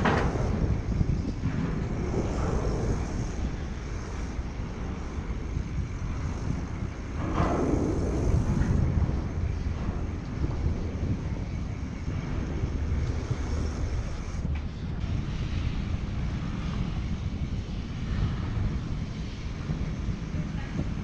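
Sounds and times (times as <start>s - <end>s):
road traffic rumble: 0.0s - 21.0s
wind on microphone: 0.0s - 21.0s.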